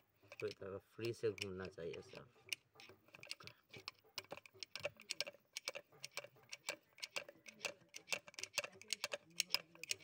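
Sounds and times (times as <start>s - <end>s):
metallic clicking of hand tool: 0.0s - 10.0s.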